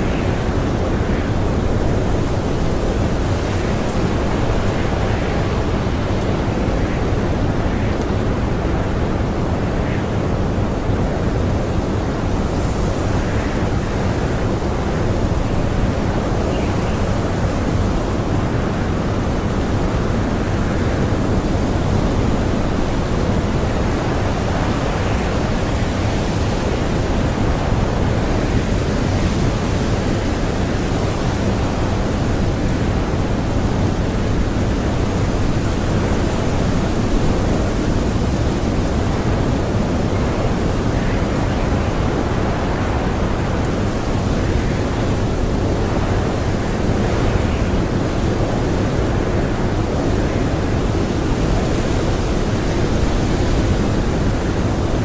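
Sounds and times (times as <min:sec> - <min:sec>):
blizzard wind blowing hard: 0:00.0 - 0:55.0.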